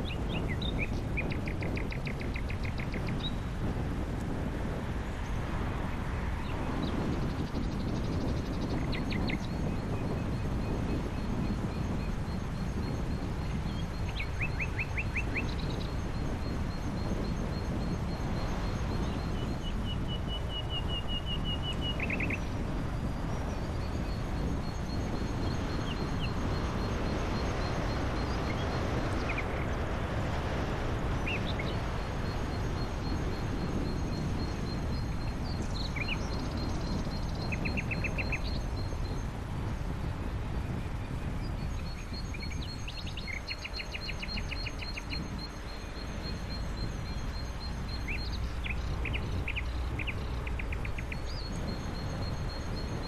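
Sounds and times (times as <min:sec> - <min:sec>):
birds chirping and trilling: 0:00.0 - 0:03.5, 0:06.4 - 0:53.0.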